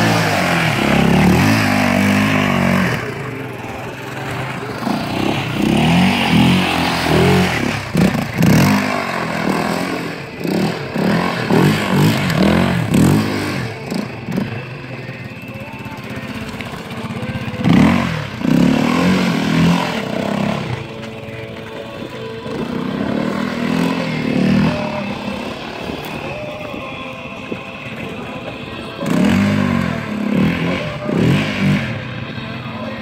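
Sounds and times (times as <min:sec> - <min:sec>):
atv engine revving hard: 0:00.0 - 0:21.0, 0:22.4 - 0:26.2, 0:29.0 - 0:32.2.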